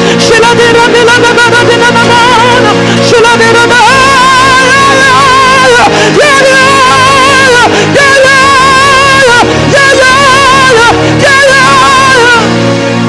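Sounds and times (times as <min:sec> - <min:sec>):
sustained musical backing: 0:00.0 - 0:13.0.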